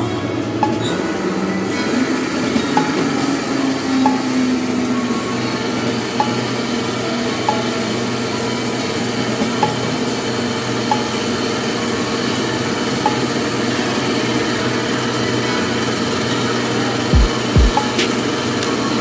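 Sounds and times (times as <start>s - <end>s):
lathe machine hum: 0.0s - 19.0s.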